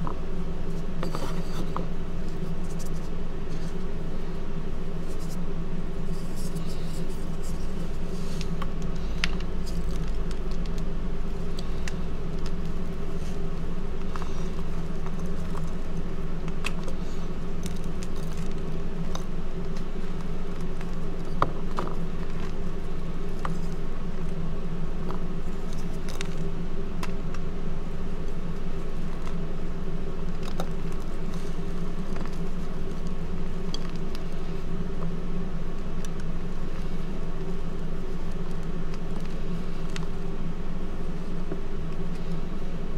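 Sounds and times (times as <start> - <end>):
steady low hum: 0.0 - 42.9
hand crushing chalk blocks: 4.9 - 42.7.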